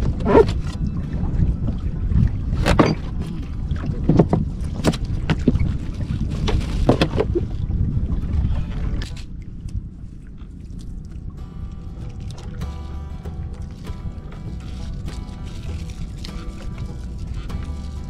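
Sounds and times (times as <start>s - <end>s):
knocks and clatter on a boat: 0.0s - 18.0s
wind rumbling on microphone: 0.0s - 18.0s.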